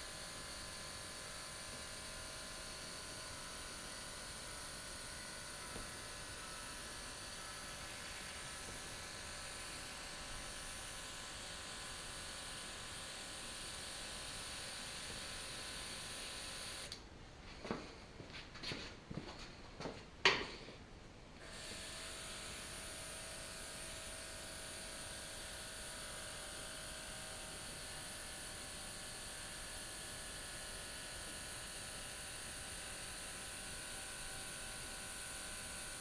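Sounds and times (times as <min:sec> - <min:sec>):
air compressor humming and hissing: 0:00.0 - 0:17.0, 0:21.4 - 0:36.0.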